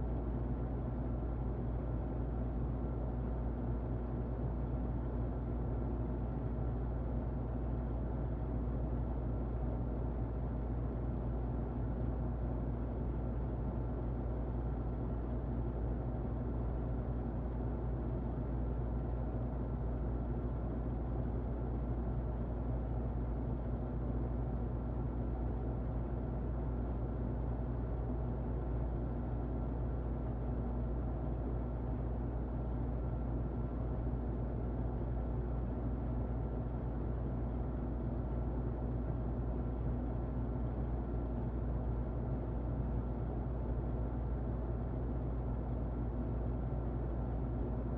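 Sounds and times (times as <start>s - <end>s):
muffled electric fan running: 0.0s - 47.9s.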